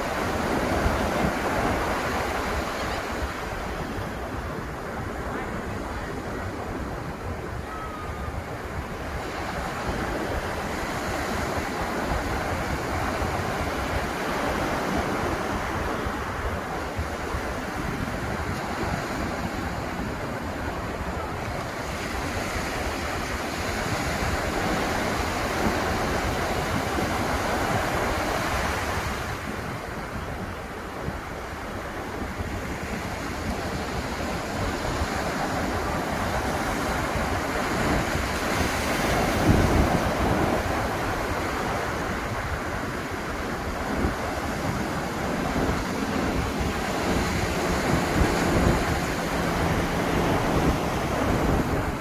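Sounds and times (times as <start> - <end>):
surf breaking on beach: 0.0 - 52.0
wind rumble on microphone: 0.0 - 52.0.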